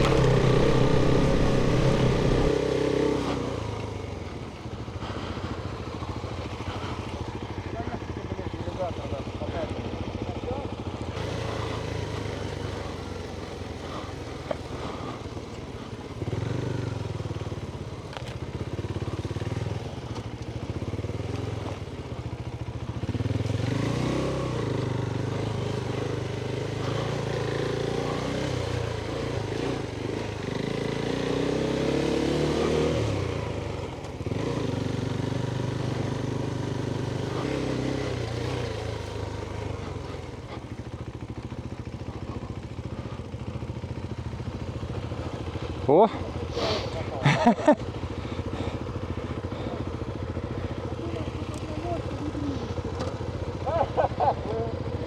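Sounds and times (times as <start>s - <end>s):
motorcycle engine revving: 0.0s - 7.0s, 7.7s - 55.0s.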